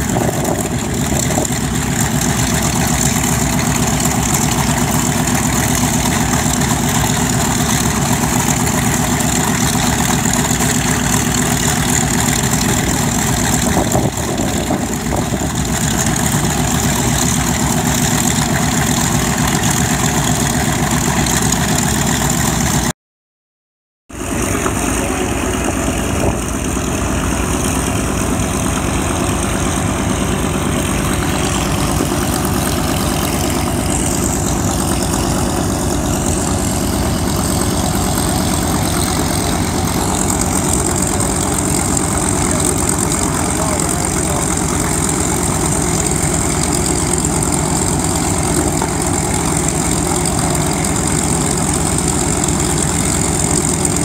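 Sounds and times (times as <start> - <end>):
radial piston engines idling: 0.0 - 22.8, 24.2 - 54.0.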